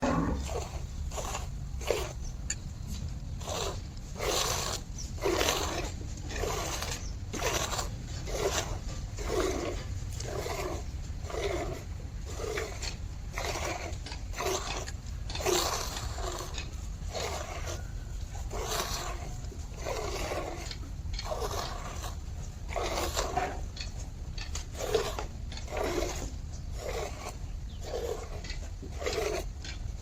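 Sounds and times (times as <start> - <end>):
rhythmic milking strokes: 0.0 - 30.0.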